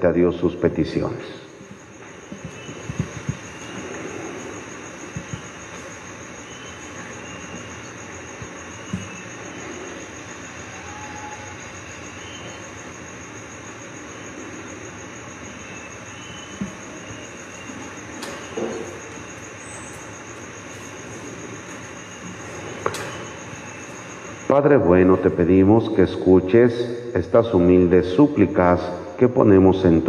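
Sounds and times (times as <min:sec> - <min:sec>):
faint high whine: 0:00.0 - 0:30.0.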